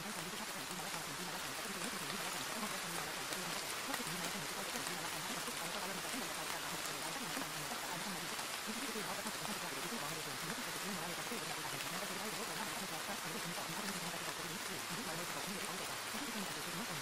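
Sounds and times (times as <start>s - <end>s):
falling water hiss: 0.0s - 17.0s.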